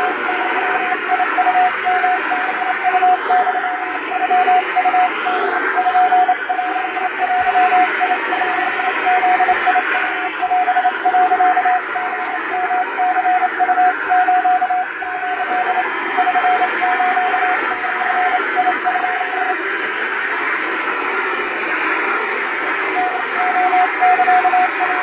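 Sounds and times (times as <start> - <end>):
morse code tone: 0.0 - 21.6, 22.9 - 25.0
radio noise hiss: 0.0 - 25.0.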